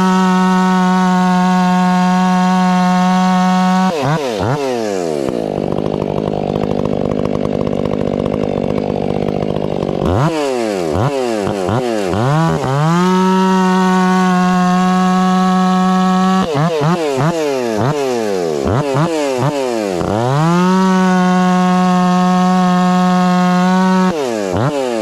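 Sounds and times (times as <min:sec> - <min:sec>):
chainsaw revving and cutting log: 0:00.0 - 0:25.0.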